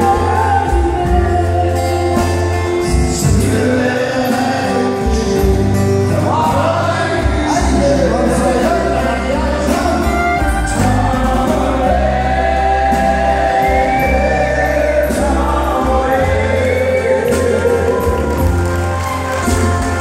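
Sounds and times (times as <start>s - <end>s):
acoustic guitars: 0.0s - 20.0s
men singing: 0.0s - 20.0s
steady bass: 0.0s - 20.0s.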